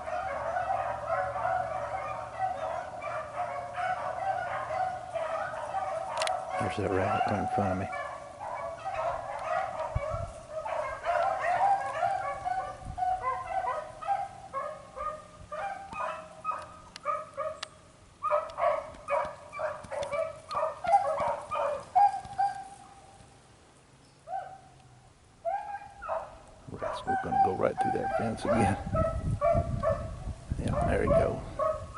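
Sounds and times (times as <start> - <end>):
beagles baying: 0.0 - 23.3, 24.2 - 31.9.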